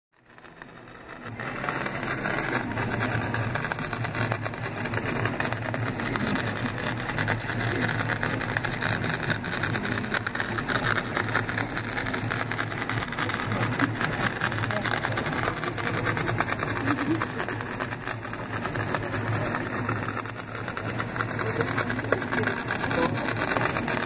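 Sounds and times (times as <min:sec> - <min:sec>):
stepper motors running: 0:00.2 - 0:24.0.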